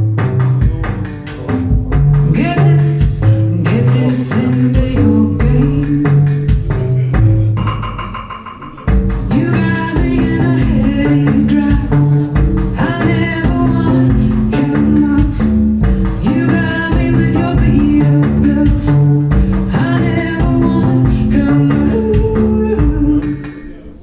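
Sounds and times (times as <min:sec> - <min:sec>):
music through loudspeakers: 0:00.0 - 0:24.0.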